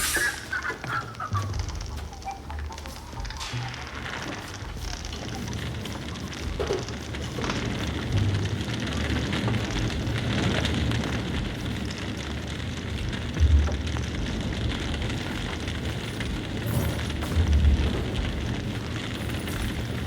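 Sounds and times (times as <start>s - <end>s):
crackling noise: 0.0s - 20.0s.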